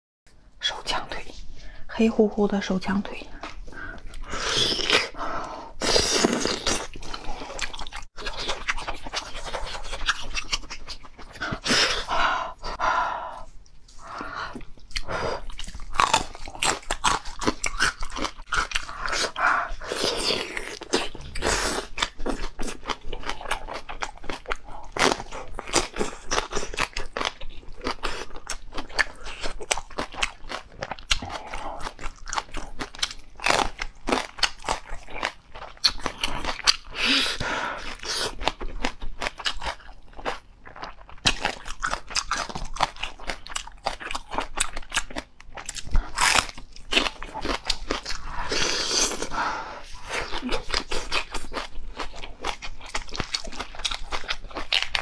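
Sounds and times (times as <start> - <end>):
chewing and crunching chicken: 5.8 - 12.8, 13.4 - 55.0.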